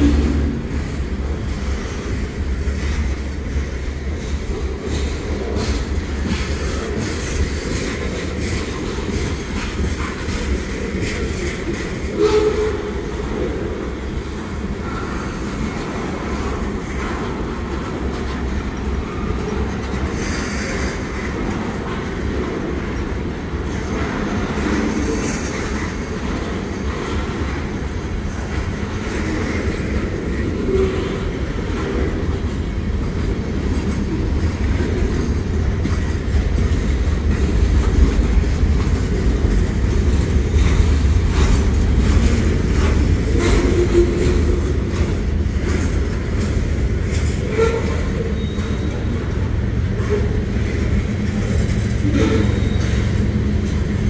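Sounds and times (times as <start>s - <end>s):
freight train rumbling past: 0.0s - 54.0s
train wheels clattering on rails: 0.0s - 54.0s.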